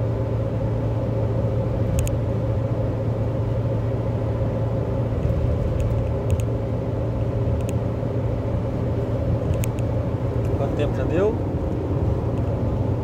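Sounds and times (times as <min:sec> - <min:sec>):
engine and tyre noise in cabin: 0:00.0 - 0:13.0
low hum: 0:00.0 - 0:13.0.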